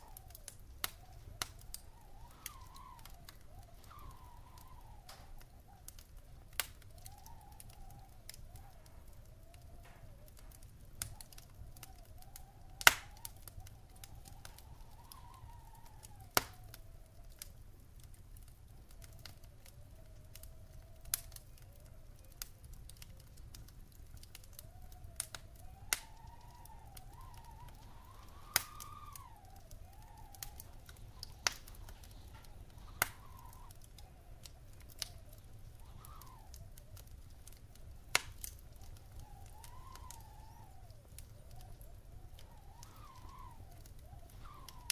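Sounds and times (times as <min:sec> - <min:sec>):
faint wavering whistle: 0:00.0 - 0:17.4, 0:24.4 - 0:44.9
fire crackling and popping: 0:00.0 - 0:44.9
fire flames rumbling: 0:00.0 - 0:44.9.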